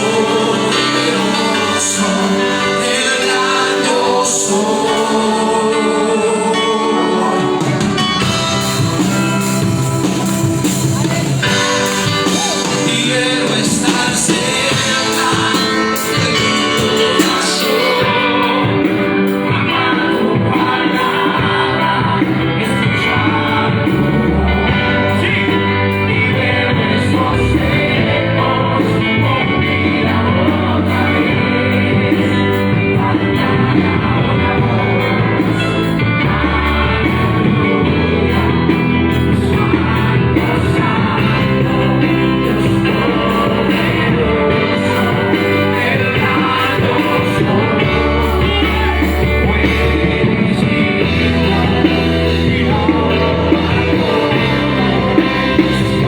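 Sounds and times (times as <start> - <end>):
person singing: 0.0 - 56.0
rock band playing: 0.0 - 56.0.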